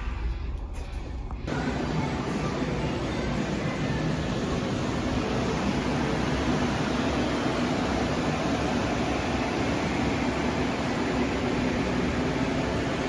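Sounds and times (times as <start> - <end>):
blower rushing: 1.5 - 13.0.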